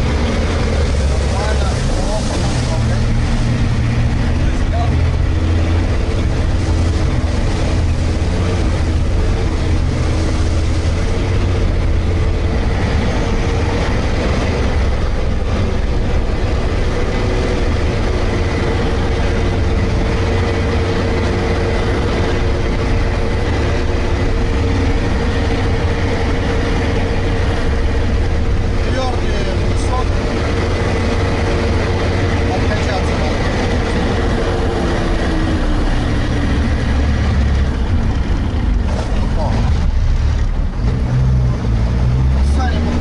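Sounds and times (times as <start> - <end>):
vehicle engine droning: 0.0 - 43.0.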